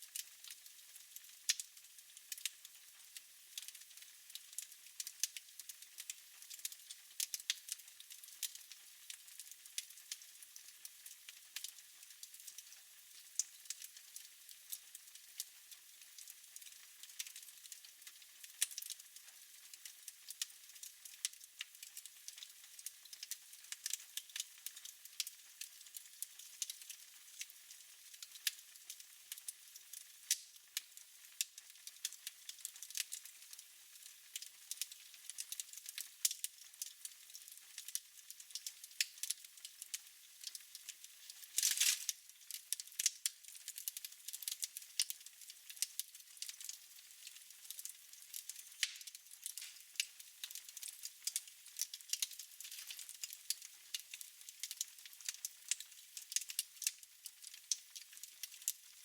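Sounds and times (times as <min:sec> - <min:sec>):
wood fire crackling: 0:00.0 - 0:10.4, 0:11.0 - 0:59.0.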